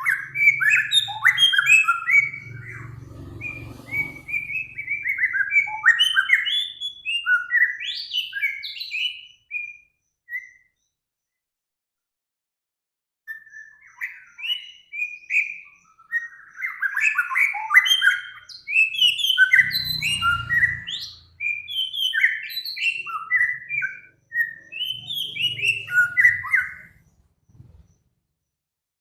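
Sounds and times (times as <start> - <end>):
songbird singing: 0.0 - 11.4, 13.3 - 28.1.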